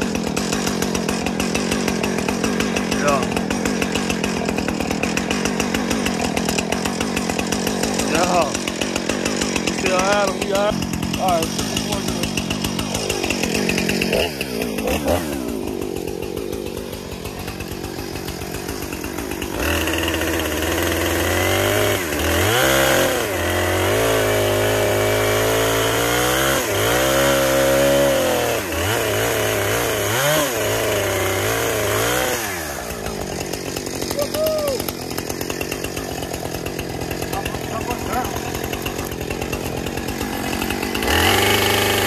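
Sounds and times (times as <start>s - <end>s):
chainsaw idling and revving: 0.0s - 42.0s.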